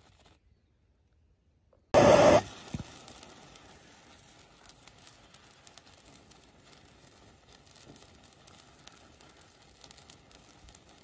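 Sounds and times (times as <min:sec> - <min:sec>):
small crackles: 0:00.0 - 0:00.7, 0:02.2 - 0:11.0
sparkler firework hissing: 0:02.0 - 0:11.0
sparkler ignition burst: 0:02.0 - 0:11.0.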